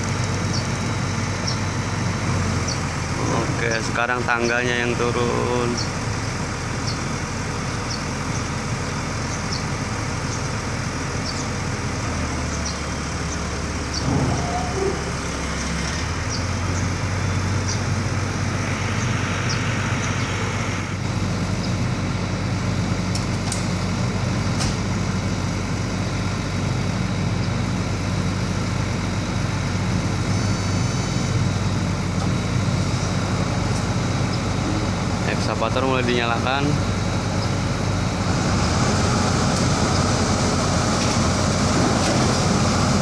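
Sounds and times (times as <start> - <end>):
truck engine running: 0.0 - 43.0.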